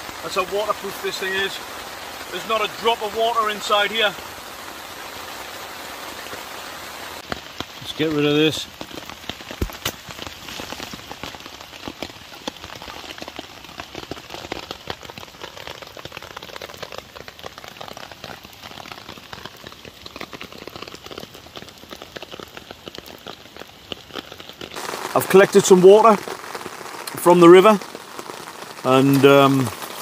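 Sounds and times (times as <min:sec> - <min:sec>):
torrential rain on puddles: 0:00.0 - 0:30.0.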